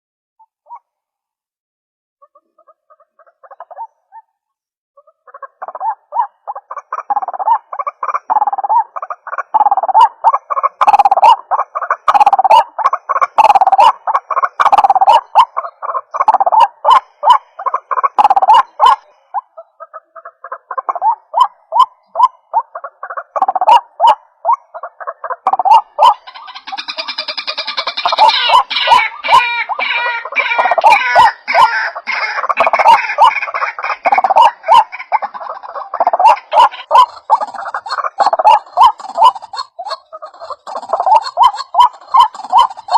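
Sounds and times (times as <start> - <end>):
bird croaking call: 5.0 - 42.9.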